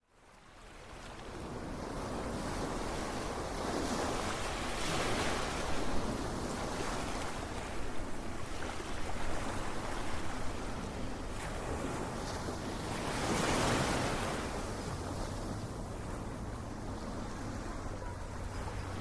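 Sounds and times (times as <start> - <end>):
ocean waves washing onto shore: 0.2 - 19.0.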